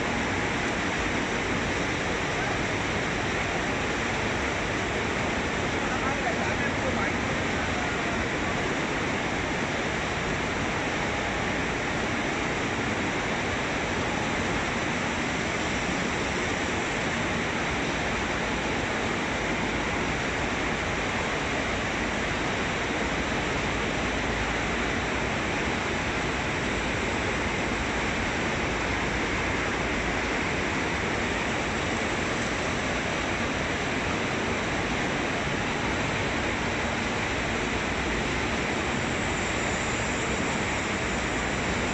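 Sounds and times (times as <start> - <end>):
machinery running steadily: 0.0 - 41.9.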